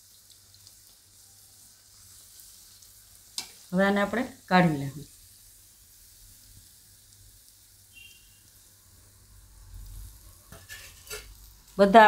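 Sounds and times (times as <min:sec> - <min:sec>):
oil sizzling in wok: 0:00.0 - 0:12.0.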